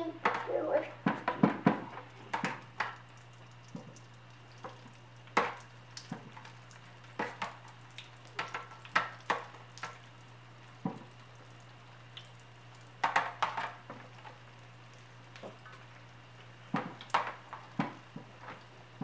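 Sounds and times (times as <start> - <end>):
oil sizzling: 0.0 - 19.0
oil popping: 1.0 - 19.0.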